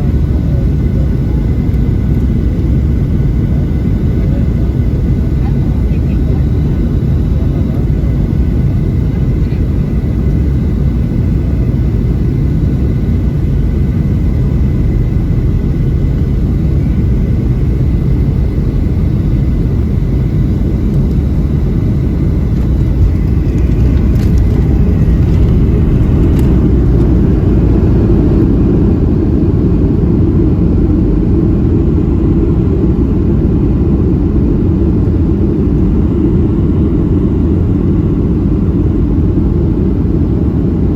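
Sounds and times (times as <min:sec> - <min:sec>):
airplane cabin rumble: 0:00.0 - 0:40.9.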